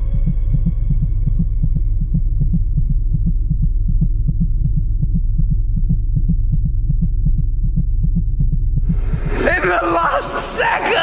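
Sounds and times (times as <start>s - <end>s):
muffled rhythmic thumping: 0.0s - 10.0s
steady low rumble: 0.0s - 10.6s.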